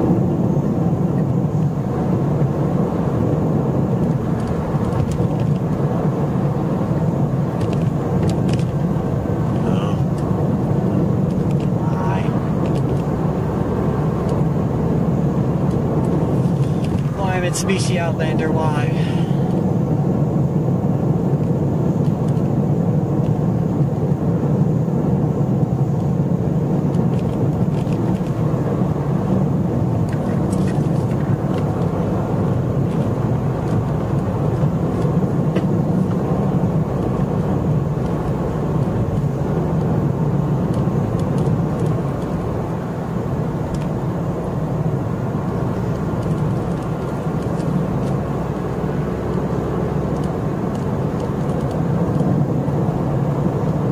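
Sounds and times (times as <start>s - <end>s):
car engine and tyre drone: 0.0s - 53.9s.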